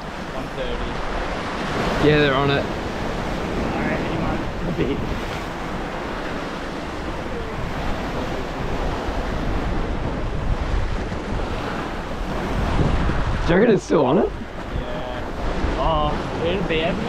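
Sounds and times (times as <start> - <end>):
ocean waves washing on rocks: 0.0 - 17.0
wind buffeting microphone: 0.0 - 17.0.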